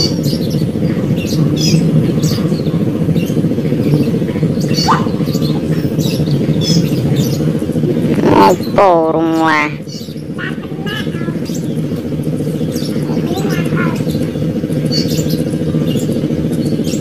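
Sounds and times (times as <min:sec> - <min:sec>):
bird chirps: 0:00.0 - 0:17.0
steady low hum: 0:00.0 - 0:17.0.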